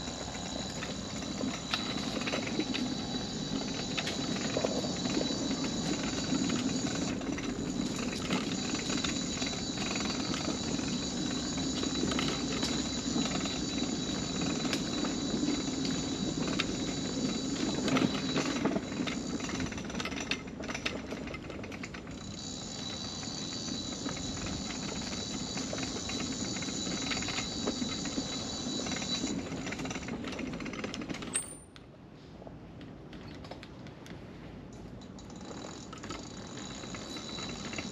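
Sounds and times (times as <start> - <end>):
wheels clattering over wooden planks: 0.0 - 31.6, 35.1 - 37.9.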